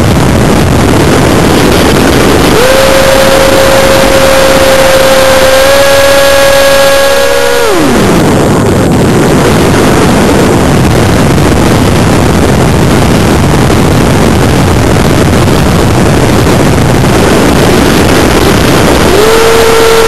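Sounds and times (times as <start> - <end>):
loud wind rush: 0.0 - 20.0.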